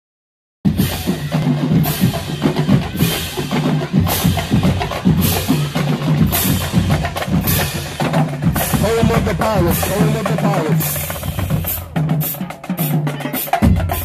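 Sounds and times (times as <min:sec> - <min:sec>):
bass drums: 0:00.7 - 0:14.0
snare drums rattling: 0:00.7 - 0:14.0.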